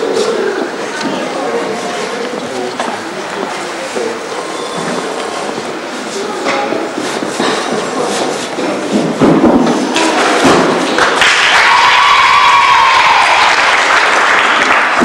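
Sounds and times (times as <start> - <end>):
hubbub of sports hall: 0.0 - 15.0.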